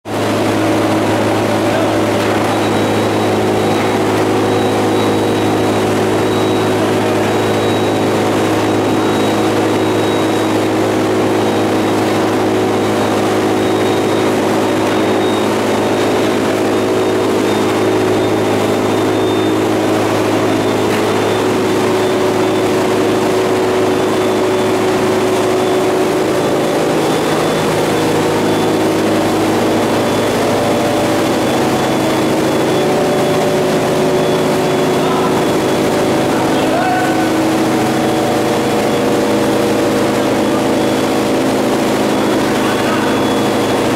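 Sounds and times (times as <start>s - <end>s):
loud electrical hum: 0.1s - 43.9s
faint high whine: 0.4s - 41.2s.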